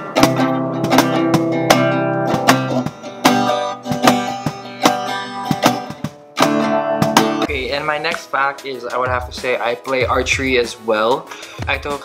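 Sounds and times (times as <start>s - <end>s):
acoustic guitar strumming chords: 0.0s - 9.6s.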